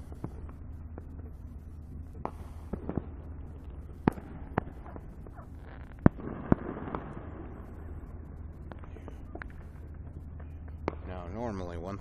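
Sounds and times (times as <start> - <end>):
distant fireworks bangs: 0.0 - 12.0
rolling echo: 0.0 - 12.0.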